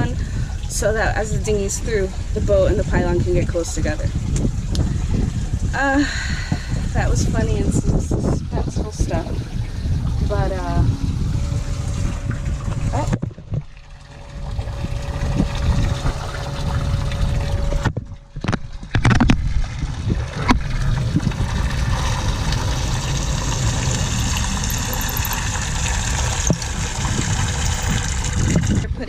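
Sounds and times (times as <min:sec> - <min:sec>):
heavy low rumble: 0:00.0 - 0:29.0
water sloshing and trickling: 0:00.0 - 0:29.0.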